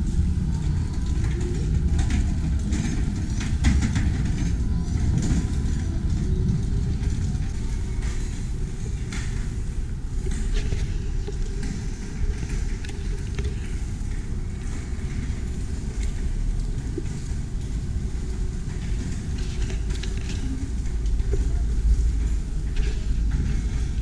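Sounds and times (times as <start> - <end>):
cart rolling on concrete: 0.0 - 24.0.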